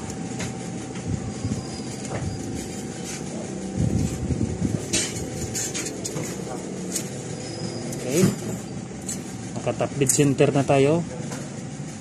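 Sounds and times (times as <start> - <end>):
mechanical rumble with hum: 0.0 - 12.0.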